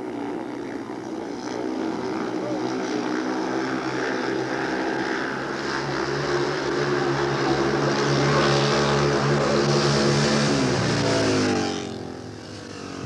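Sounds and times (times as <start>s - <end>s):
motorcycle racing engines droning: 0.0s - 13.0s.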